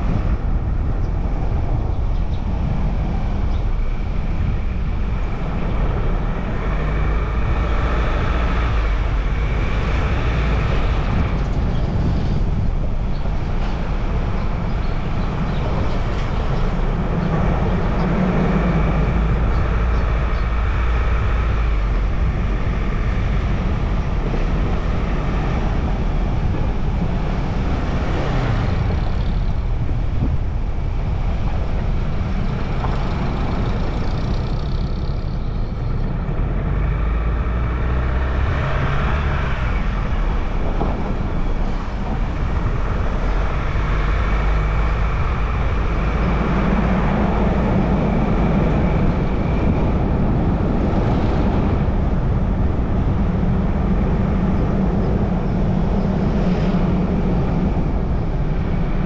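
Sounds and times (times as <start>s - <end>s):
tyre road noise: 0.0s - 59.0s.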